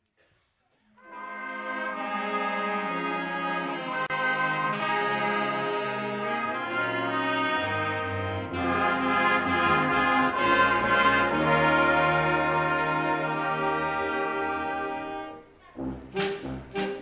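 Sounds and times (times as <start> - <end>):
wind band playing held chords: 1.0 - 17.0.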